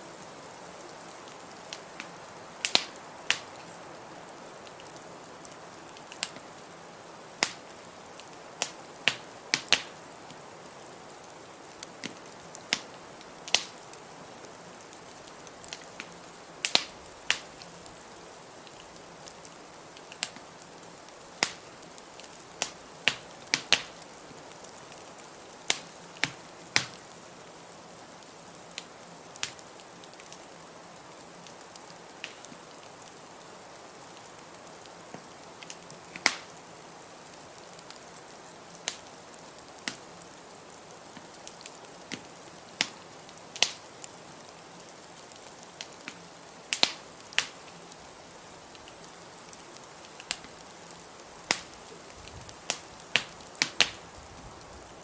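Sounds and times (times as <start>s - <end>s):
soft hiss: 0.0s - 55.0s
wood fire crackling: 0.0s - 55.0s.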